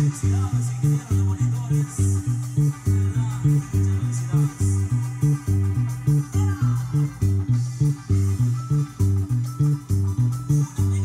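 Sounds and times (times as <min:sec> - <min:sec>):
electric bass guitar bass line: 0:00.0 - 0:11.0.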